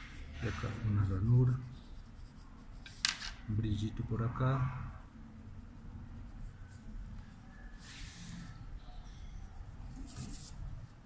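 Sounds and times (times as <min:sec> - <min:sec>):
low room hum: 0:00.0 - 0:11.0
pencil scratching on paper: 0:00.0 - 0:11.0.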